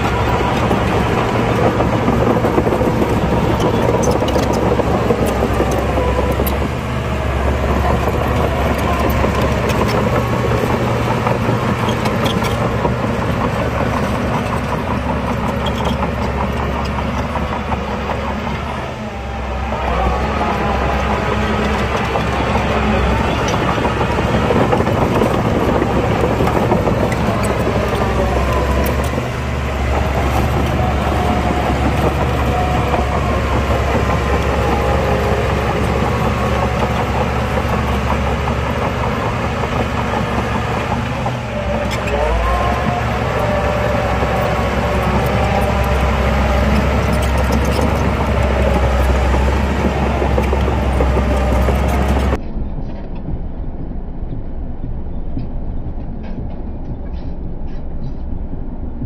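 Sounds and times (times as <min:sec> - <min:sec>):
diesel engine deep rumble: 0:00.0 - 0:59.0.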